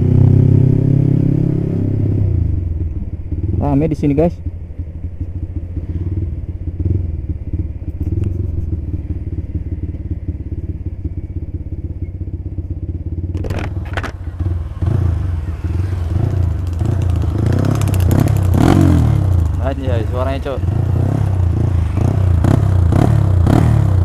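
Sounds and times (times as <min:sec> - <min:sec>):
motorcycle engine exhaust pulse: 0:04.4 - 0:24.0.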